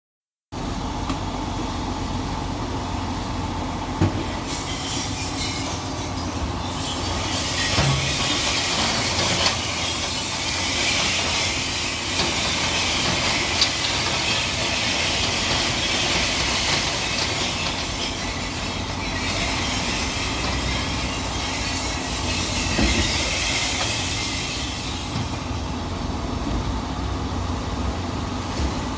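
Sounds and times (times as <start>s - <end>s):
truck engine rumble: 0.5s - 28.9s.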